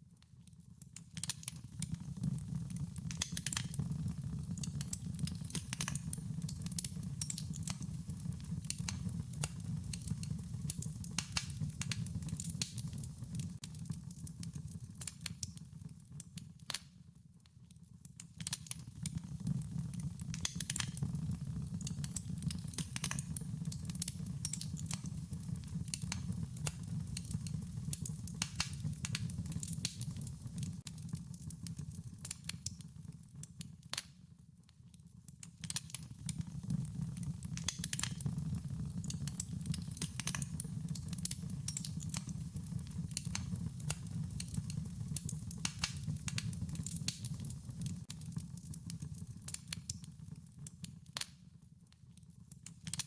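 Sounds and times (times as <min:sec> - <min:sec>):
wood fire crackling and popping: 0:00.2 - 0:53.0.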